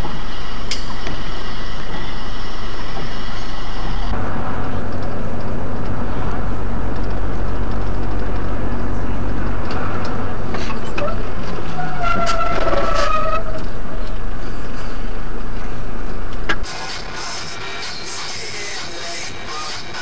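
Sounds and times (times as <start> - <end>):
deep engine drone: 0.0 - 12.2, 12.8 - 20.0
engine and road noise in cab: 0.0 - 20.0.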